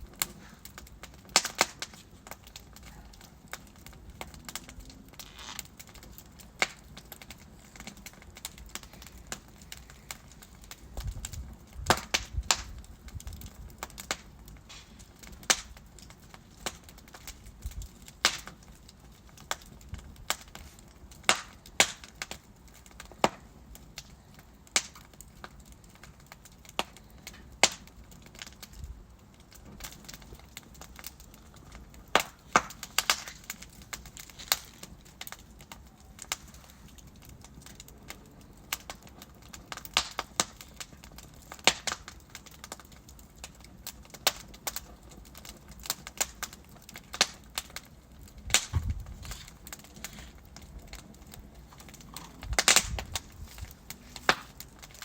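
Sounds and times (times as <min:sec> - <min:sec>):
hiss and rumble of flames: 0:00.0 - 0:55.0
wood fire crackling and popping: 0:00.0 - 0:55.0.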